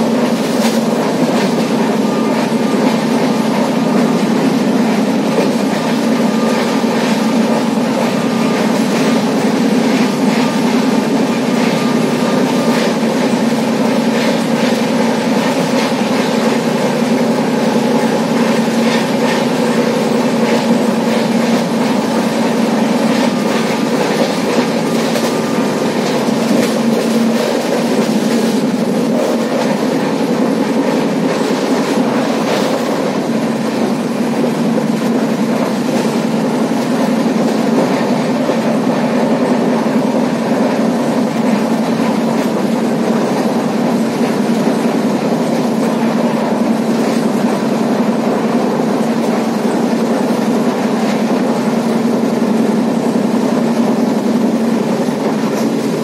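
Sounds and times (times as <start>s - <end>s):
train running noise: 0.0s - 56.0s
train wheels clicking over rail joints: 0.0s - 56.0s.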